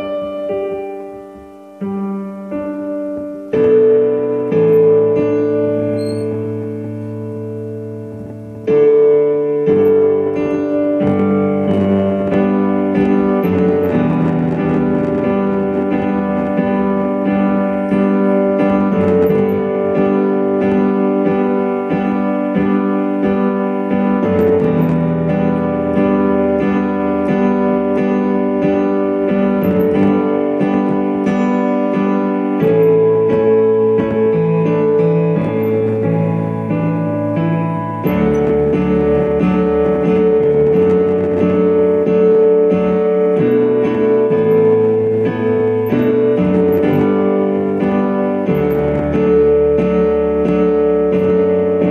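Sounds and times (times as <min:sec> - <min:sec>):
piano chords: 0:00.0 - 0:51.9.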